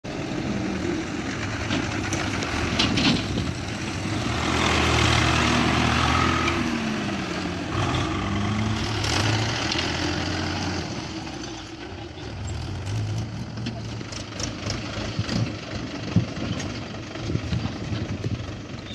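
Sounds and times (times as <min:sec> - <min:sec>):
tractor engine driving past: 0:00.1 - 0:18.9.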